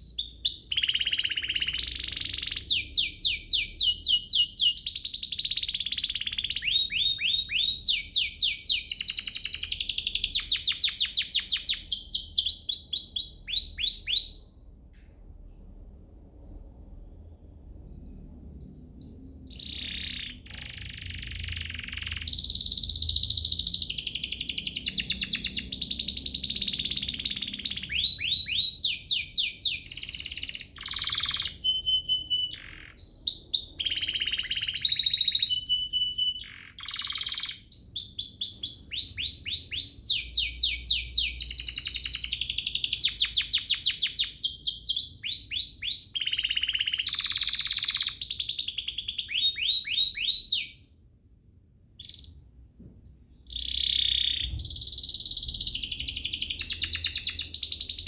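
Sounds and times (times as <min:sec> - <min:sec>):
canary singing: 0:00.0 - 0:14.6, 0:17.8 - 0:50.9, 0:52.0 - 0:52.5, 0:53.1 - 0:58.0.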